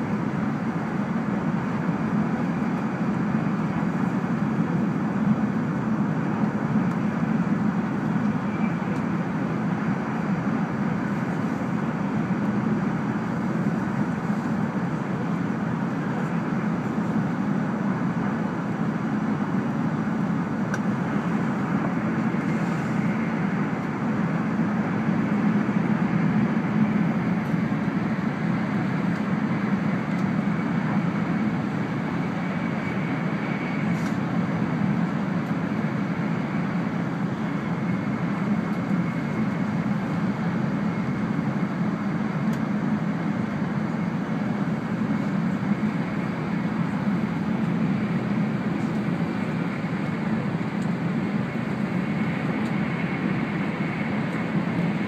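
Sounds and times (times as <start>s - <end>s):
train cabin running rumble: 0.0s - 55.0s.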